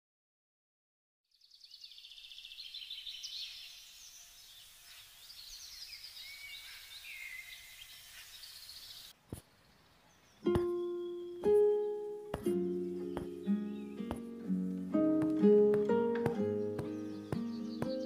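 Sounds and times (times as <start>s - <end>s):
small birds chirping and trilling: 1.3s - 18.0s.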